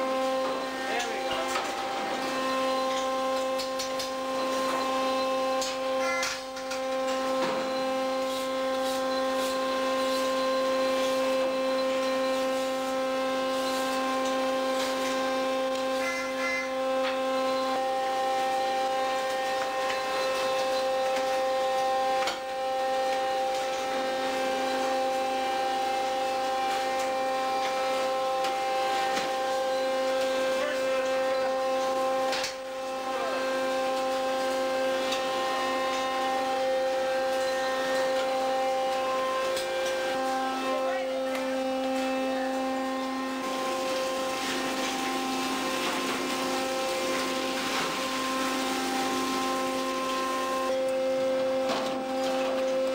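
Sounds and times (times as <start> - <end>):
machinery droning: 0.0 - 52.9.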